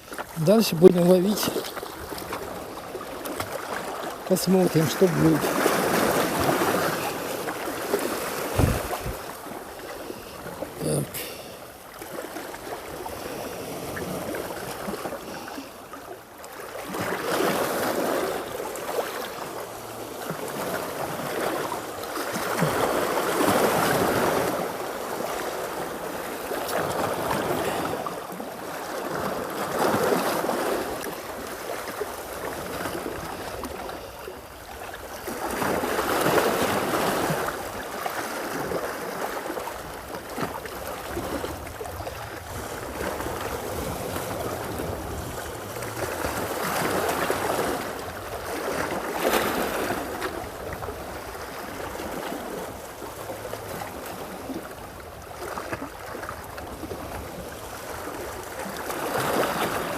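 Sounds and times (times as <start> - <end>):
sea waves washing onto shore: 0.0 - 59.9.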